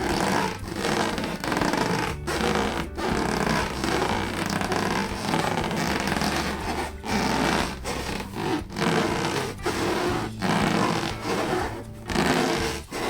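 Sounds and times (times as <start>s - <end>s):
balloons rubbing and squeaking: 0.0s - 13.0s.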